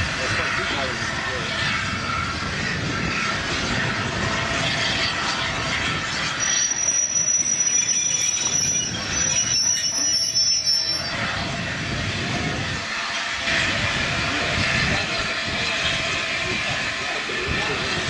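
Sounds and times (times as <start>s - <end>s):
train running noise: 0.0s - 18.0s
train wheels squealing on rails: 0.0s - 18.0s.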